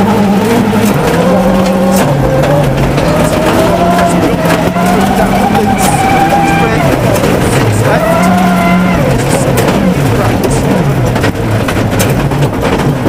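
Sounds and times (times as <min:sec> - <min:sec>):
gravel knocking against car underside: 0:00.0 - 0:13.0
rally car engine revving: 0:00.0 - 0:13.0.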